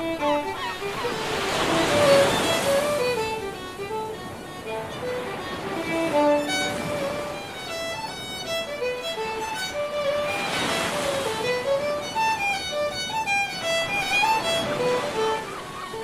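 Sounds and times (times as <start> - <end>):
sea waves: 0.0 - 16.0
slow solo violin melody: 0.0 - 16.0.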